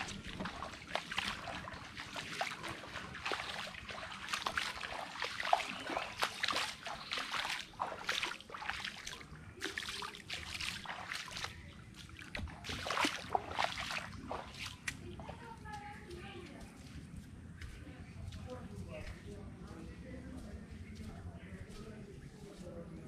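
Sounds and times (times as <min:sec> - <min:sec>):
footsteps splashing through water: 0:00.0 - 0:22.9.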